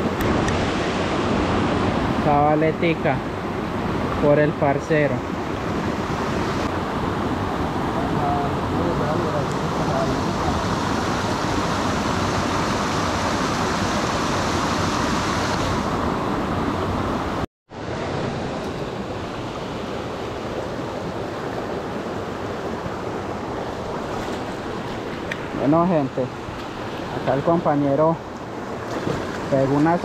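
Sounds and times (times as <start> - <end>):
creek water rushing: 0.0 - 30.0.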